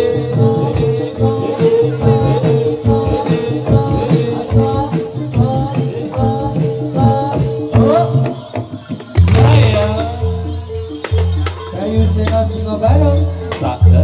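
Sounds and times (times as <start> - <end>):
drum strokes: 0.0 - 14.0
gamelan music: 0.0 - 14.0
jingling rattle percussion: 0.0 - 14.0.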